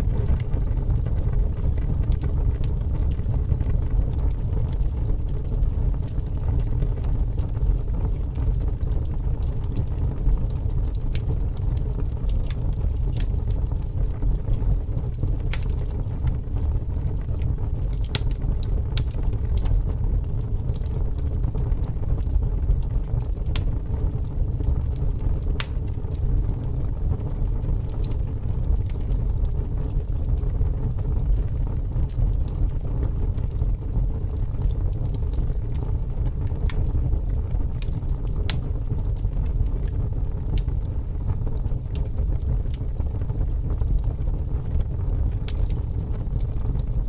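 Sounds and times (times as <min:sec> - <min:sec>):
fire crackling and popping: 0:00.0 - 0:47.0.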